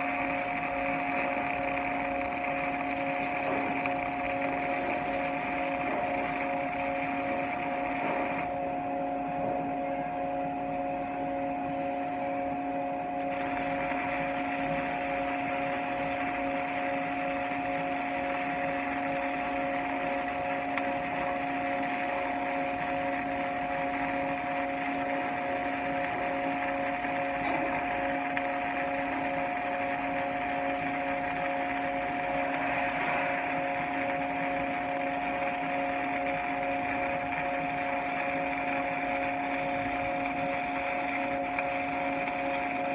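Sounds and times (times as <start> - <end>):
machine humming: 0.0 - 42.9.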